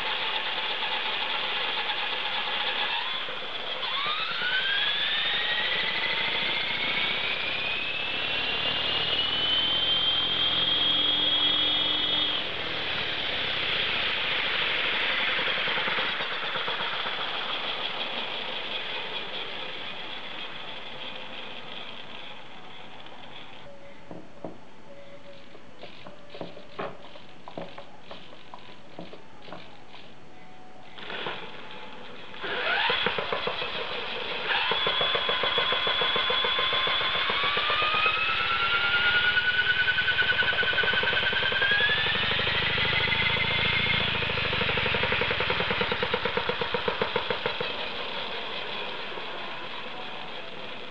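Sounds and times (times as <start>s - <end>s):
helicopter rotor spinning down: 0.0s - 23.7s, 31.0s - 50.9s.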